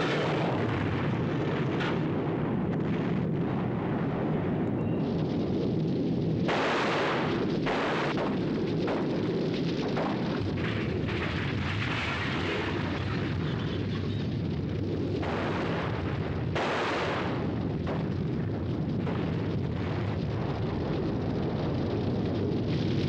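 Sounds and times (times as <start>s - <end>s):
explosion blasts: 0.0s - 23.0s
heavy rumble: 0.0s - 23.0s.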